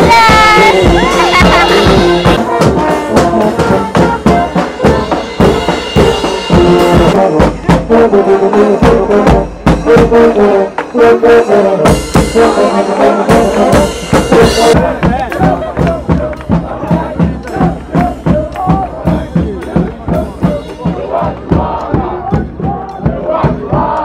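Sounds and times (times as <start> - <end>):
brass horns and sousaphone: 0.0 - 24.0
drums and cymbal beat: 0.0 - 24.0.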